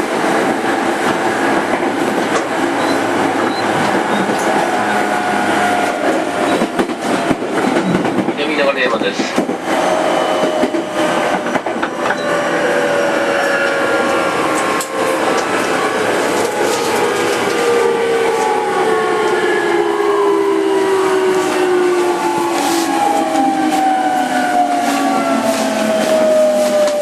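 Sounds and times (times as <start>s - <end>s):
rail running noise: 0.0s - 27.0s.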